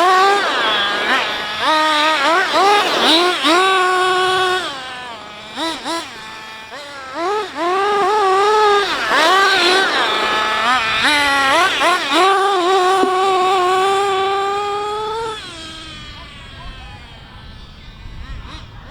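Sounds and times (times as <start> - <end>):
rc car nitro engine revving: 0.0 - 18.9.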